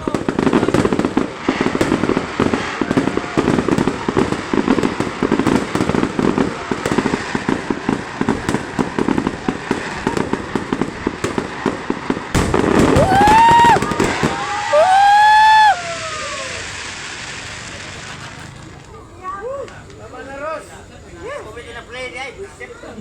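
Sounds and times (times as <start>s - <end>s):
fireworks popping and banging: 0.0s - 21.1s.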